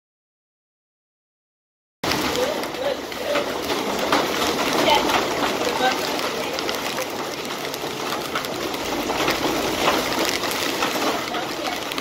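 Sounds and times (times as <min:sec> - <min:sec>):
heavy rain: 0:02.0 - 0:12.0.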